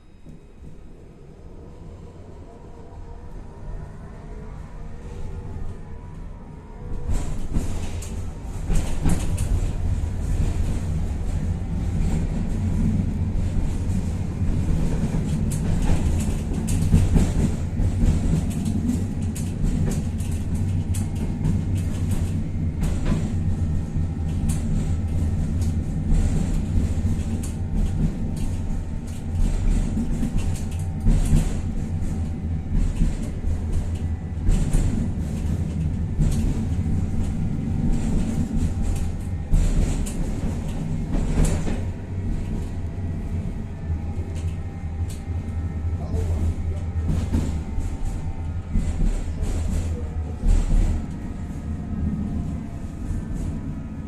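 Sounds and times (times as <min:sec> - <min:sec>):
tram rumble and hum: 0:00.0 - 0:54.0.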